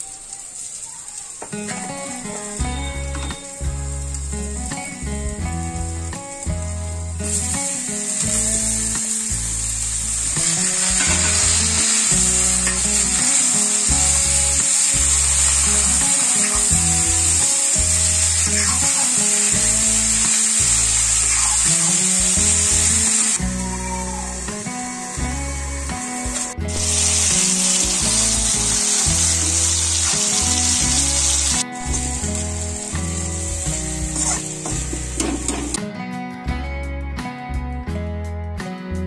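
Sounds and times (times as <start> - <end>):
vegetables sizzling in hot oil: 0.0 - 35.8.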